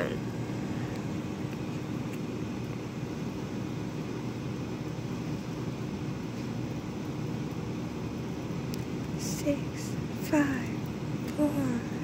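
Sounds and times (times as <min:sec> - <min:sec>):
air fryer fan whirring: 0:00.0 - 0:12.0
faint low hum: 0:00.0 - 0:12.0.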